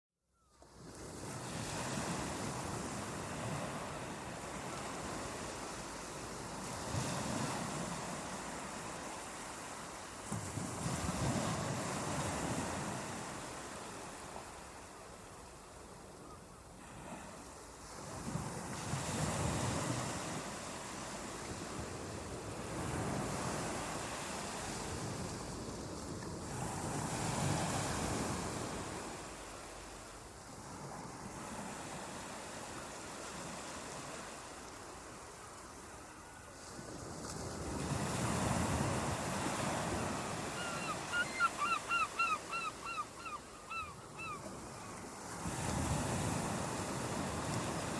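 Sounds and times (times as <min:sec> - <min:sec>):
ocean waves breaking on beach: 0:00.8 - 0:15.1, 0:16.8 - 0:47.9.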